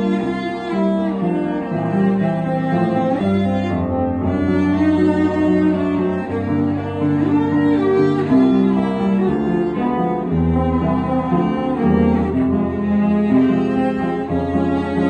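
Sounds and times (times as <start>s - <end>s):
bowed cello melody: 0.0s - 15.0s
piano accompaniment: 0.0s - 15.0s.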